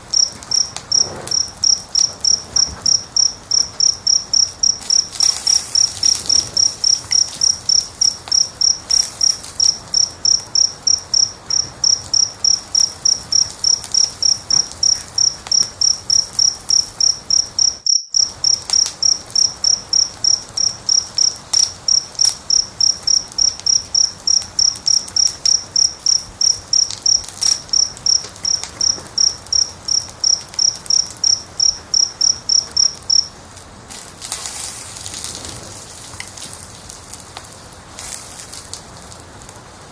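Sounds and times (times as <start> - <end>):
cricket chirping: 0.0 - 37.2
fire crackling: 0.0 - 39.9.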